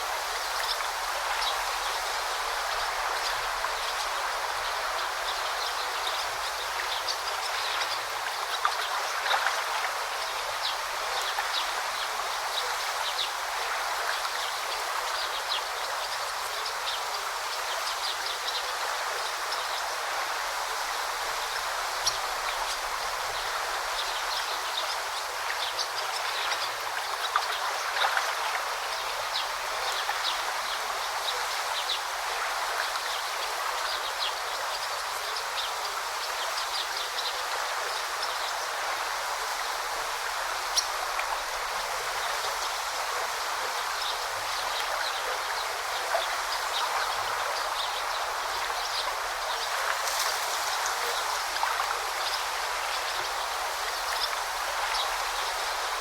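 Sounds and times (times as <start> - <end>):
brook water flowing: 0.0 - 56.0
water splashes and ticks: 2.6 - 17.2, 22.0 - 35.7, 36.5 - 56.0.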